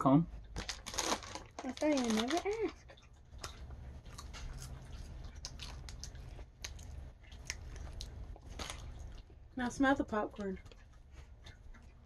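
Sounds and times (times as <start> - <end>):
person chewing popcorn: 0.4 - 12.0.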